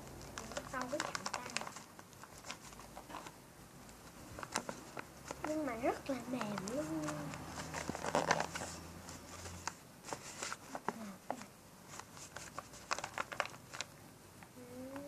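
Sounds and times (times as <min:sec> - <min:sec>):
paper and tape crinkling: 0:00.0 - 0:15.0.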